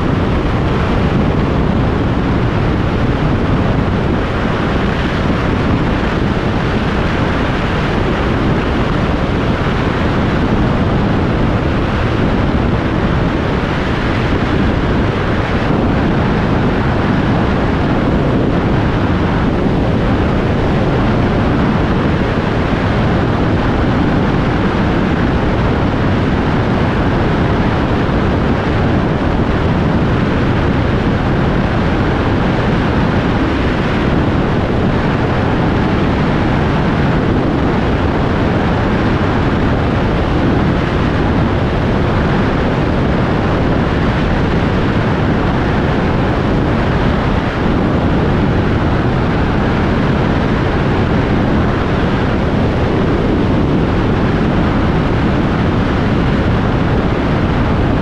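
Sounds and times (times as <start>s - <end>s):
motorcycle engine and road noise: 0.0s - 58.0s
wind buffeting microphone: 0.0s - 58.0s.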